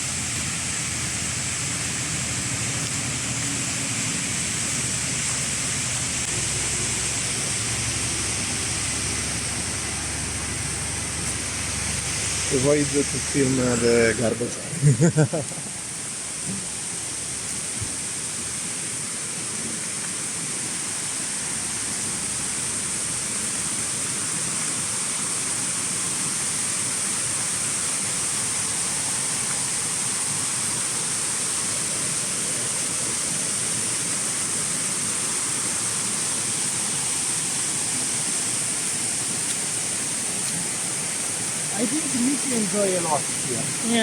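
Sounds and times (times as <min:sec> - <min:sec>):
rushing falling water: 0:00.0 - 0:44.0.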